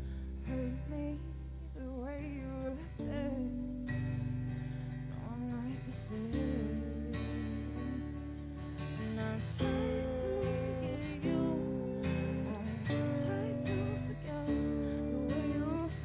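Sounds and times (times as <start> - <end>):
bass guitar: 0.0 - 16.0
electric guitar lead melody: 0.0 - 16.0
strummed acoustic guitar: 0.0 - 16.0.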